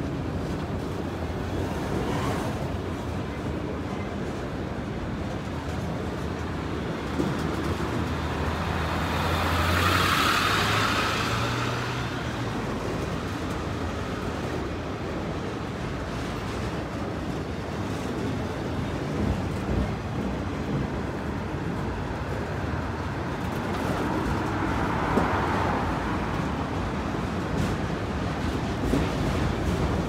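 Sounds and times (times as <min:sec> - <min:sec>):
steel wheels on rail: 0:05.2 - 0:30.0.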